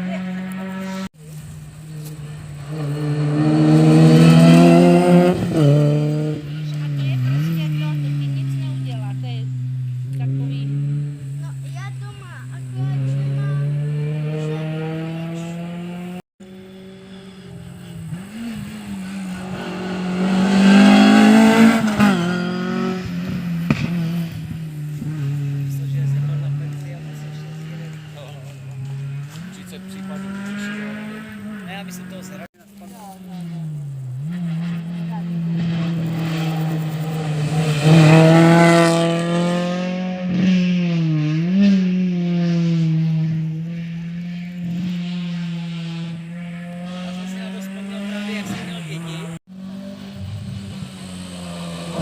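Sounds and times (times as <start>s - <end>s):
rally car engine at full throttle: 0.0s - 52.0s.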